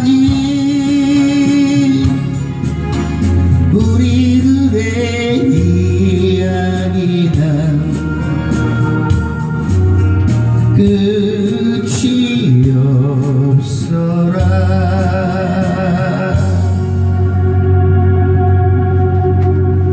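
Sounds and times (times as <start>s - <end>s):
man singing a slow ballad: 0.0s - 2.8s, 3.5s - 17.4s
hi-hat beat: 0.0s - 16.1s
keyboard accompaniment: 0.0s - 19.9s.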